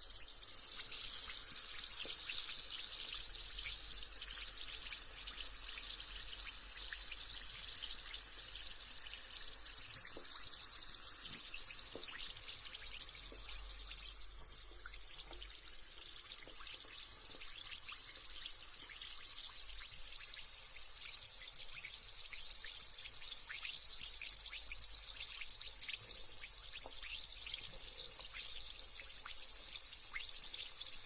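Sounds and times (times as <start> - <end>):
bath bomb fizzing in water: 0.2 - 31.0.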